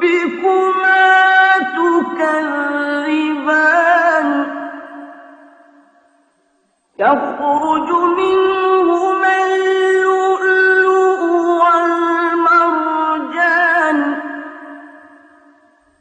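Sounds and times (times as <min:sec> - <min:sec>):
person chanting recitation: 0:00.0 - 0:05.8, 0:07.0 - 0:15.6.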